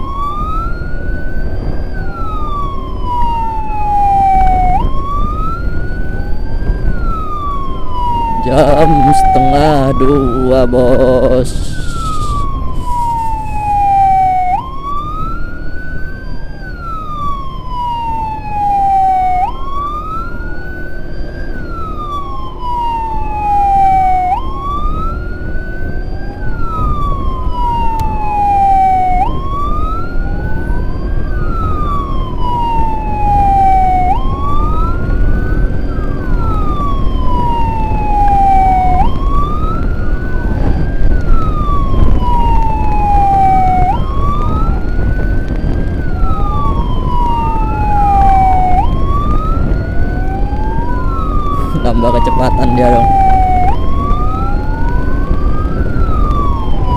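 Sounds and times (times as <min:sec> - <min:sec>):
emergency siren wailing: 0:00.0 - 0:56.9
road and wind noise: 0:00.0 - 0:56.9.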